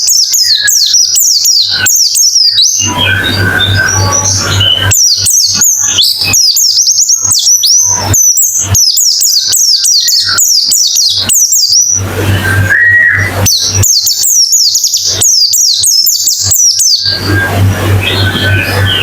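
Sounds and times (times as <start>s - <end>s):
bird chirping chatter: 0.0s - 19.0s
low held tone: 0.0s - 19.0s
steady low hum: 0.0s - 19.0s.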